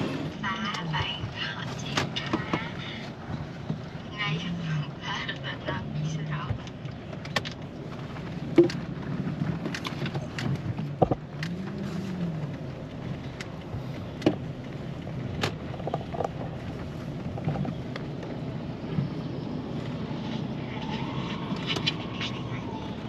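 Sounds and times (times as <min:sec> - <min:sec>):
car engine and road hum: 0:00.0 - 0:23.0.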